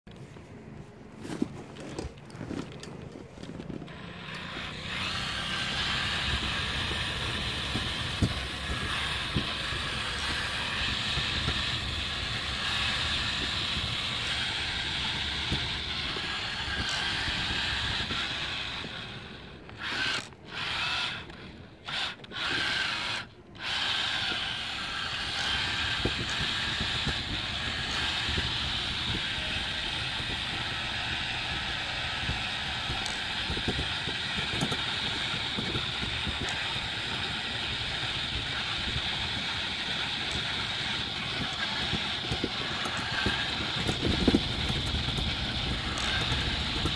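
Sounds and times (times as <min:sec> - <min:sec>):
wheels rolling over paving tiles: 0:00.1 - 0:22.9, 0:23.6 - 0:46.9
small motor and gearbox whining: 0:00.1 - 0:46.9.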